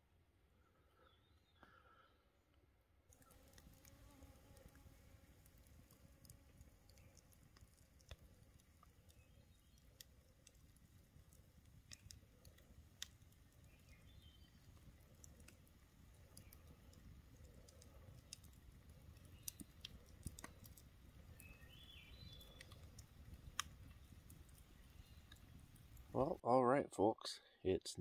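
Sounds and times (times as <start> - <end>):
raindrops tapping on a tarp: 3.2 - 26.0.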